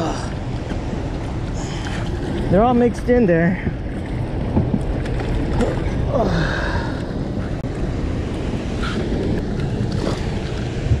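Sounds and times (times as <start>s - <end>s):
turbulent water rushing: 0.0s - 11.0s
wind buffeting microphone: 0.0s - 11.0s.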